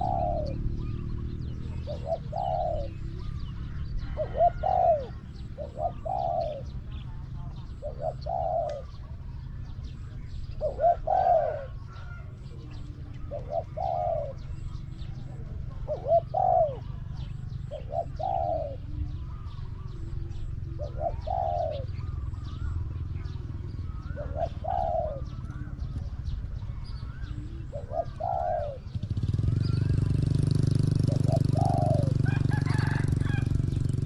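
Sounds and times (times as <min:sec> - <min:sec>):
doves cooing: 0:00.0 - 0:34.0
small birds chirping: 0:00.0 - 0:34.0.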